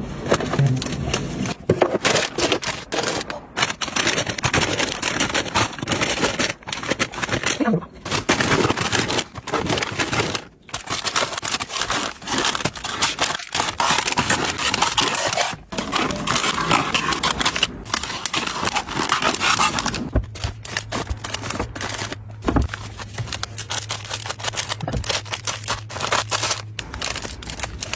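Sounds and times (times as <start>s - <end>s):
plastic bins knocking and scraping: 0.0s - 23.9s
low steady hum: 0.0s - 27.9s
plastic bags crinkling: 0.2s - 27.9s.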